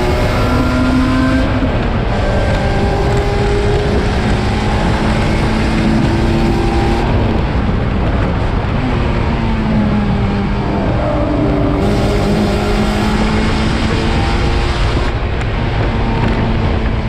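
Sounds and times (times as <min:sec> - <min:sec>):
race car engine running hard: 0:00.0 - 0:17.0
road and wind noise: 0:00.0 - 0:17.0.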